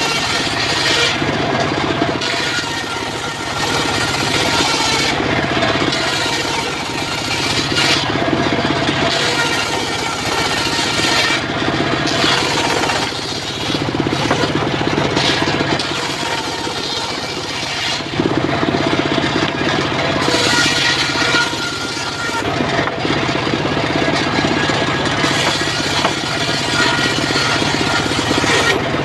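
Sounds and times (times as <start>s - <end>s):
sawmill blade ripping log: 0.0s - 29.0s
sawmill engine running: 0.0s - 29.0s.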